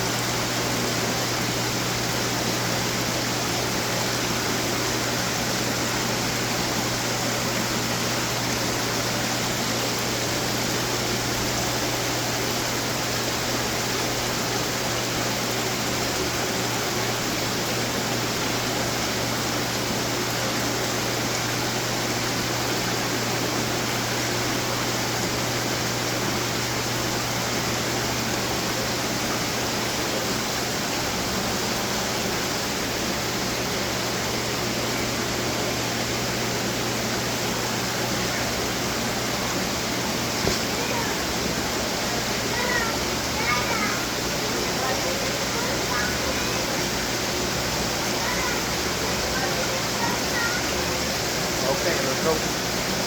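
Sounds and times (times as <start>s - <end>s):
fountains splashing: 0.0s - 53.0s.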